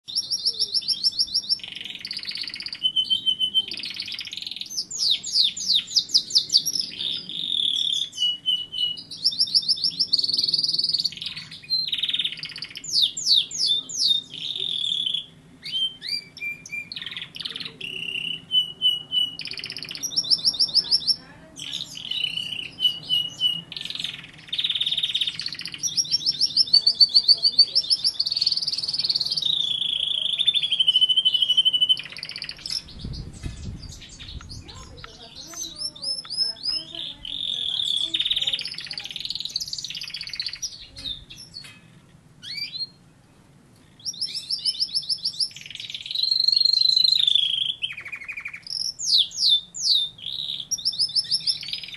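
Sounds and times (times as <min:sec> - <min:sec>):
canary singing trills: 0:00.0 - 0:43.1, 0:43.8 - 0:51.9.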